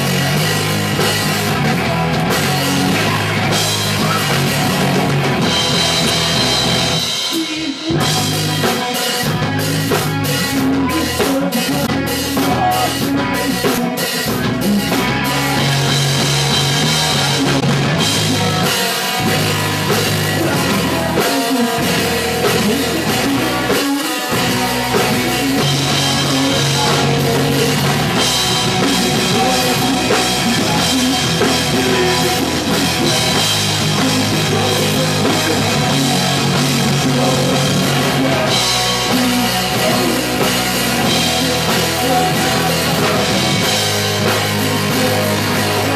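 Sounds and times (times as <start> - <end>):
drum kit: 0.0 - 45.9
punk rock band playing live: 0.0 - 45.9.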